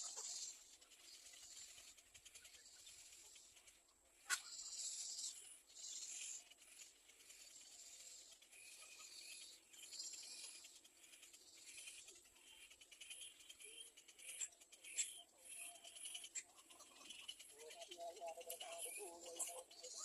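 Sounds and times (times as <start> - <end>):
nestling birds begging calls: 0.0 - 20.0.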